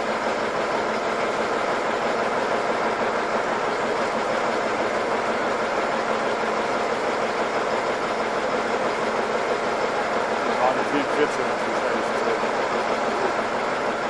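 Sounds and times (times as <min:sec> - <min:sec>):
diesel locomotive engine idling: 0:00.0 - 0:14.0.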